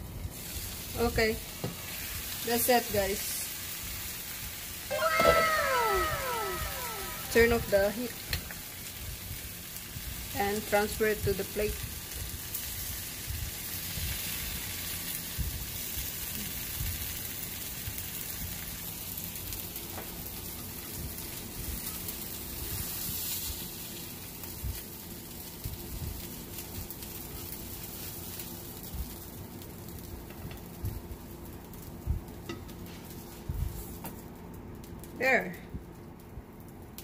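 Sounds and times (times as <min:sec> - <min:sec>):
food sizzling in a frying pan: 0:00.0 - 0:35.4.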